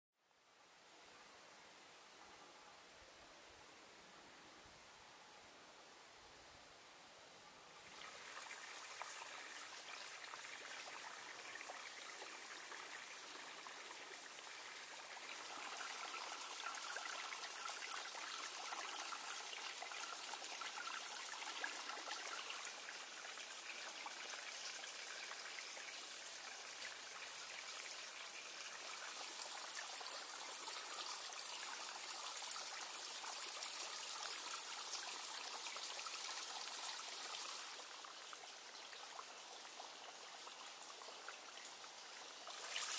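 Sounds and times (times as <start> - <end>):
spring water running and splashing: 7.8 - 42.9.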